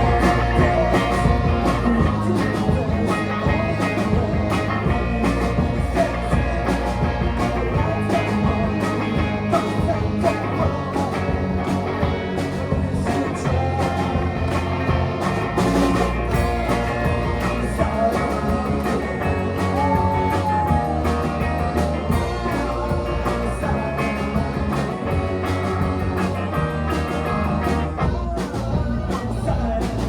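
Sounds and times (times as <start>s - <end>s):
rock band playing: 0.0s - 30.0s.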